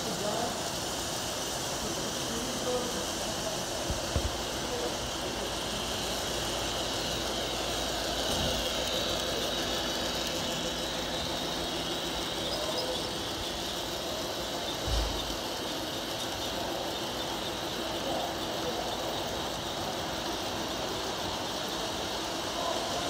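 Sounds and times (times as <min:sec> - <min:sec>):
model trains whirring: 0:00.0 - 0:23.0.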